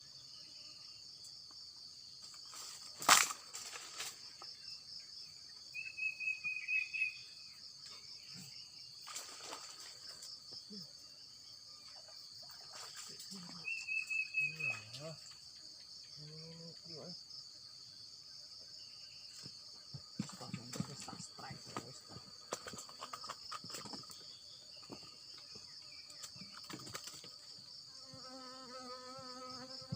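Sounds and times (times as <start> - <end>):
high-pitched insect chorus: 0.0 - 29.9.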